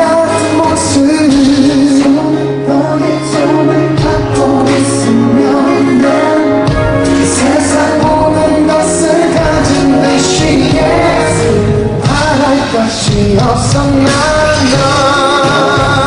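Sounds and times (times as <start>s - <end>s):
acoustic guitar: 0.0s - 16.0s
live band music: 0.0s - 16.0s
person singing: 0.0s - 16.0s.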